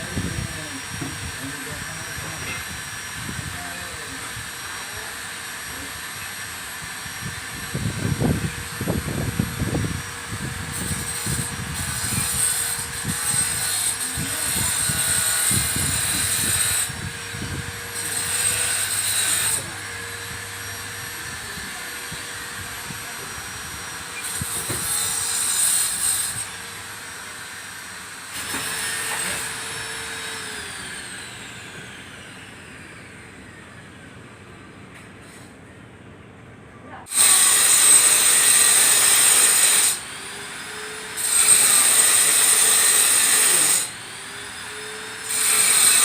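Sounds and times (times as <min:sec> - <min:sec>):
grinder disc screeching on tile: 0:00.0 - 0:31.3, 0:37.1 - 0:46.0
grinder motor whine: 0:00.0 - 0:34.5, 0:37.1 - 0:46.0.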